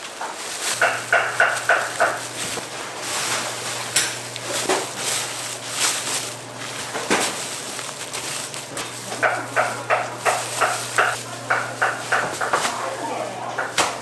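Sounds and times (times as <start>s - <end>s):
utensils and dishes clinking: 0.0s - 14.0s.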